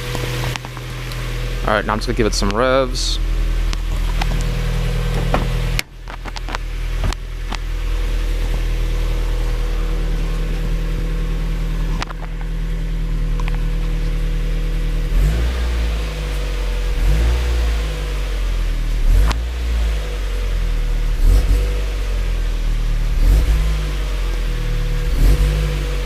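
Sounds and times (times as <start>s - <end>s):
car engine running and revving: 0.0s - 26.0s.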